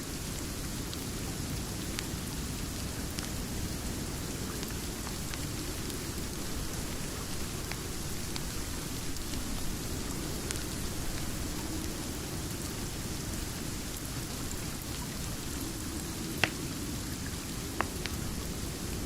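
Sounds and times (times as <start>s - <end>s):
steady rain rumble: 0.0s - 19.0s.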